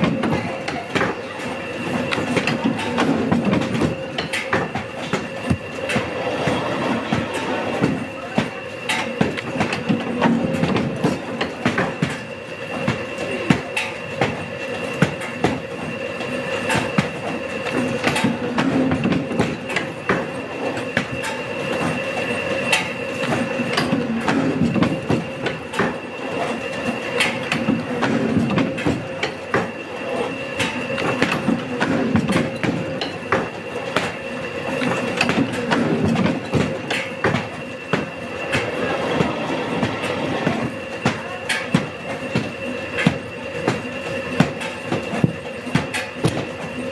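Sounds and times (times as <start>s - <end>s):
paper cutting machine hum and whine: 0.0s - 46.9s.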